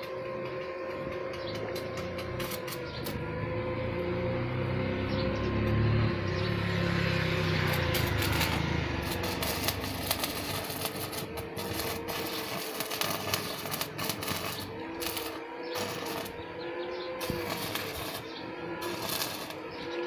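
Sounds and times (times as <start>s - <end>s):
welding arc crackling: 0.0s - 3.3s, 6.4s - 20.0s.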